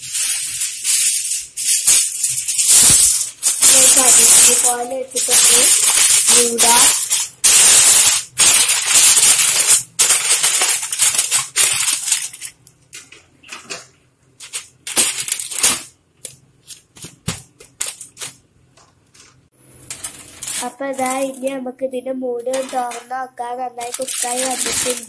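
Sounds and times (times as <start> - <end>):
aluminium foil crinkling: 0.0 - 13.8, 14.4 - 16.9, 17.6 - 18.4, 19.2 - 21.5, 22.5 - 23.0, 23.8 - 25.0.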